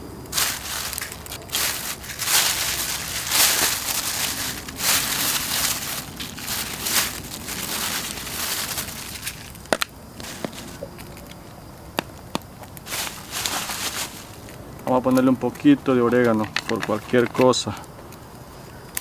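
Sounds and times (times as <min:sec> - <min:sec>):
plastic bag crinkling: 0:00.3 - 0:17.6.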